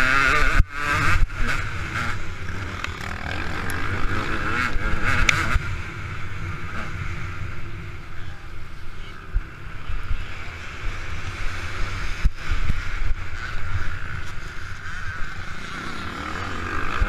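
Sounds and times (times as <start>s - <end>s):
two-stroke motorcycle engine revving: 0.0s - 17.0s
wind rumble on camera: 0.0s - 17.0s.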